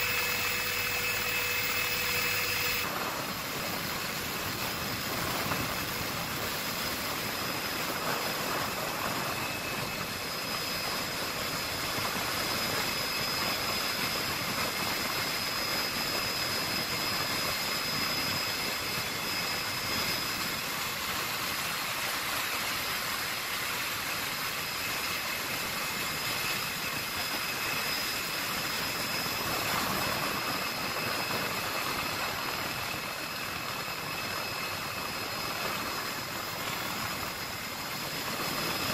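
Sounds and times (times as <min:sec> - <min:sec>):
helicopter engine and rotor rush: 0:00.0 - 0:38.9
high-pitched whine: 0:00.0 - 0:38.9.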